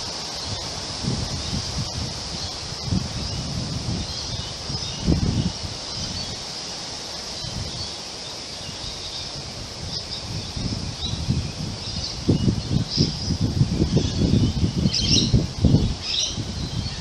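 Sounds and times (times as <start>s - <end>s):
wind buffeting microphone: 0.0s - 6.6s, 8.7s - 17.0s
wind through tree leaves: 0.0s - 17.0s.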